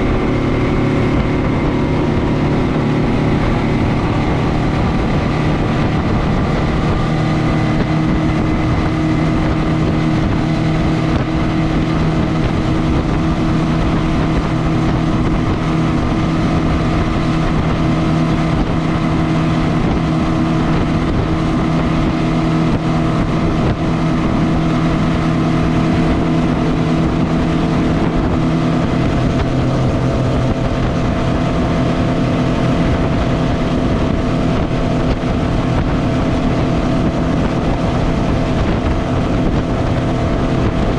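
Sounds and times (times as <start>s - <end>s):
constant rushing noise: 0.0s - 40.9s
outboard motor running: 0.0s - 40.9s.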